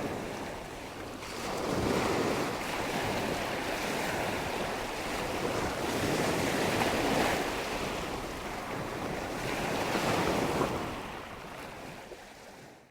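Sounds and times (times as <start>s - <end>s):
wind: 0.0s - 12.9s.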